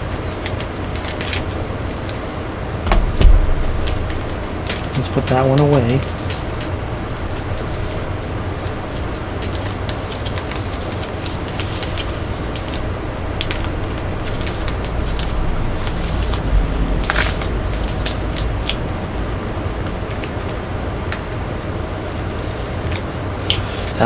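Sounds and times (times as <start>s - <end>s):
steady low hum: 1.6s - 9.4s, 10.9s - 23.4s.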